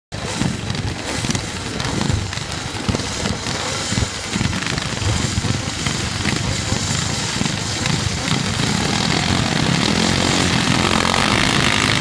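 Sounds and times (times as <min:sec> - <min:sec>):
motorcycle engines revving: 0:00.1 - 0:12.0.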